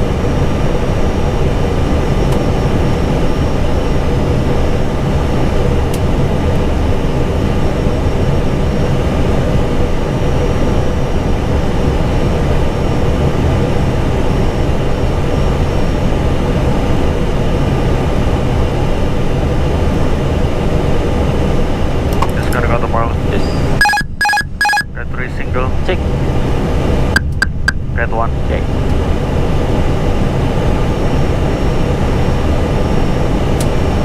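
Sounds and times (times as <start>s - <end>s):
airflow and engine noise: 0.0s - 34.0s.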